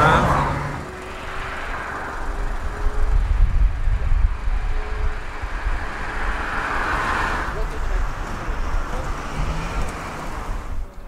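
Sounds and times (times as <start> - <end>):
wind buffeting microphone: 1.1 - 11.0.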